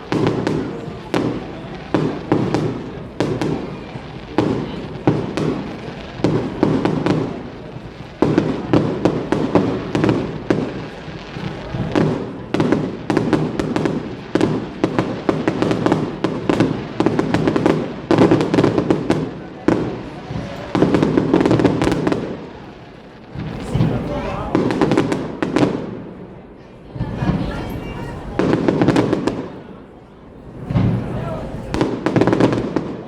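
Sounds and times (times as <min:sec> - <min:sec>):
fireworks bangs and pops: 0:00.0 - 0:26.3, 0:26.9 - 0:29.6, 0:30.4 - 0:33.0.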